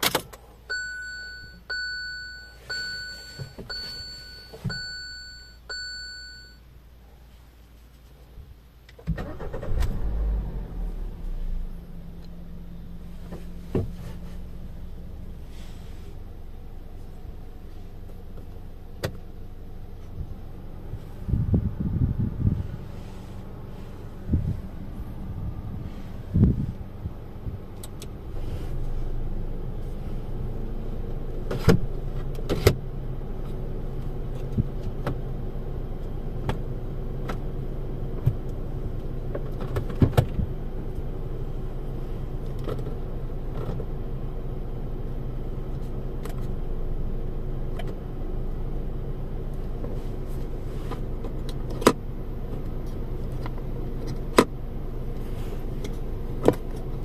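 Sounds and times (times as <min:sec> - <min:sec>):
engine and blower hum: 0:08.2 - 0:57.0.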